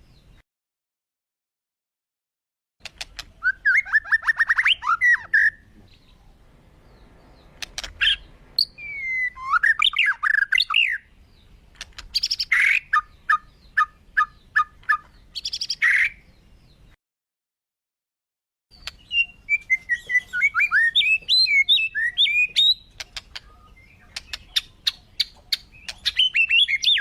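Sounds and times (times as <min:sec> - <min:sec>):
birds trilling and whistling: 0:02.8 - 0:17.0, 0:18.7 - 0:27.0.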